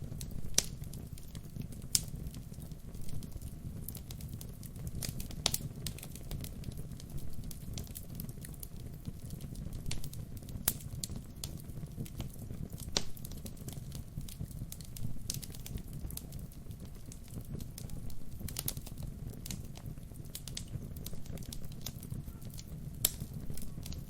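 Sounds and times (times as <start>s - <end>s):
fire pops and snaps: 0.0s - 24.0s
wood fire crackling: 0.0s - 24.0s.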